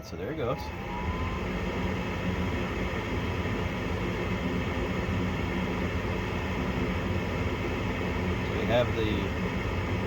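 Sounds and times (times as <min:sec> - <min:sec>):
furnace motor whirring: 0:00.0 - 0:10.0.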